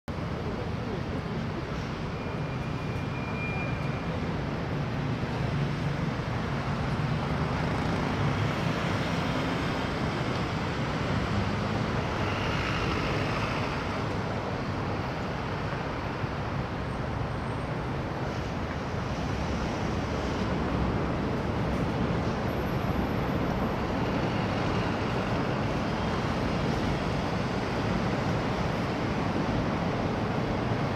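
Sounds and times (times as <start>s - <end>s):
cars and buses moving: 0.1s - 30.9s
low rumble of expressway traffic: 0.1s - 30.9s.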